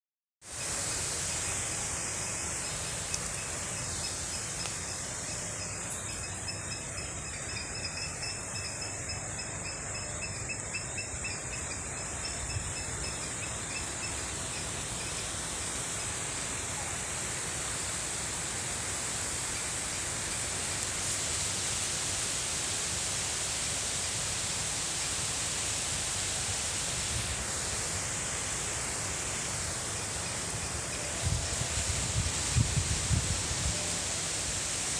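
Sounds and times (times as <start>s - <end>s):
faint pulsing insect call: 0.4s - 34.9s
insects chorus: 0.4s - 34.9s.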